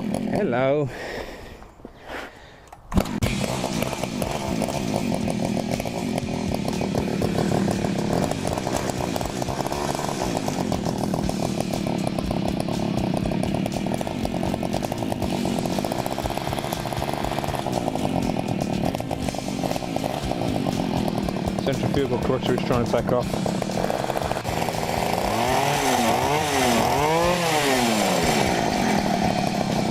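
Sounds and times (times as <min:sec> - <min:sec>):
two-stroke engine running: 0:00.0 - 0:00.9, 0:02.9 - 0:29.9.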